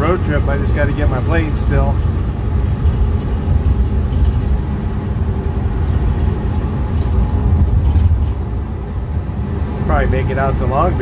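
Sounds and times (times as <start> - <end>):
pickup engine running: 0.0 - 11.0
road noise: 0.0 - 11.0.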